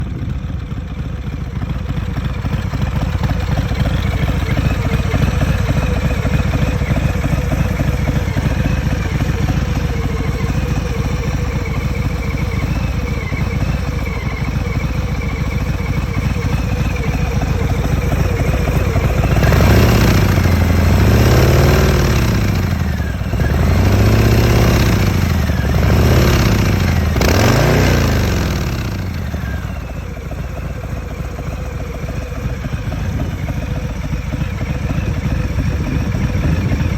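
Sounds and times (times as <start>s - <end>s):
motorcycle engine idling and revving: 0.0s - 36.9s.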